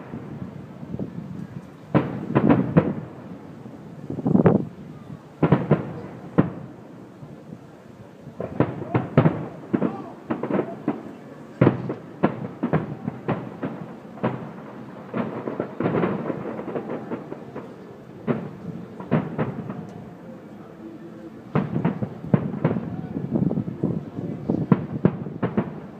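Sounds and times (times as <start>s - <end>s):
fireworks bursting: 0.0s - 20.6s, 21.3s - 25.9s.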